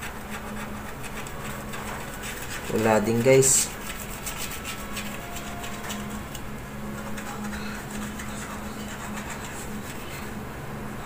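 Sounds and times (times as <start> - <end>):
scratching lottery ticket: 0.0 - 10.4.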